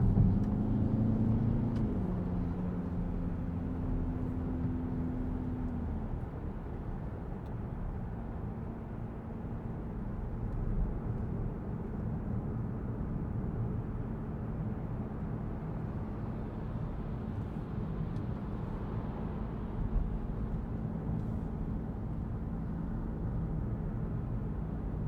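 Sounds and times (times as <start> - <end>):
car engine hum: 0.0 - 25.0.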